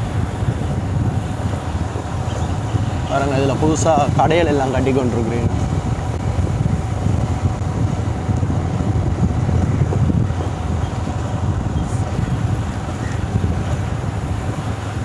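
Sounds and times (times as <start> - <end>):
motorcycle engine rumble: 0.0 - 15.0
wind buffeting microphone: 0.0 - 15.0.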